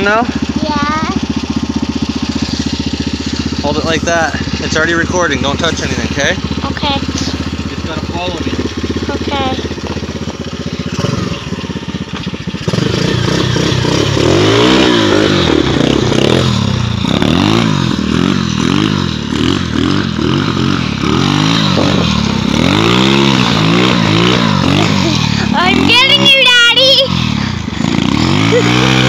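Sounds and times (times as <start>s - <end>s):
motorbike engine revving: 0.0s - 29.0s.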